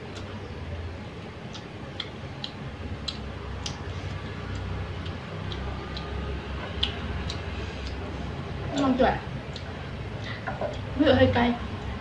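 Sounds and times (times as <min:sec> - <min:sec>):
low steady hum: 0:00.0 - 0:12.0
person chewing noodles: 0:01.2 - 0:10.9.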